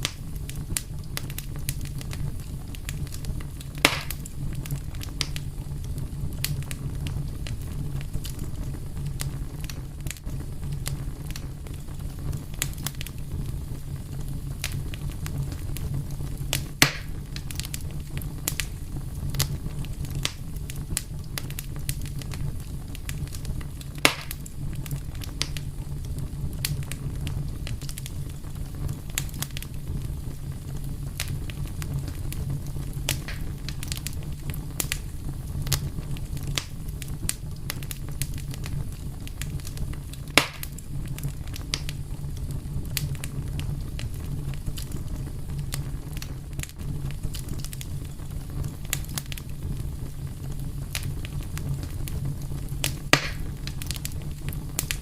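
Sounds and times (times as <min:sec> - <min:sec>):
loud fire pops: 0:00.0 - 0:55.0
wood fire crackling: 0:00.0 - 0:55.0.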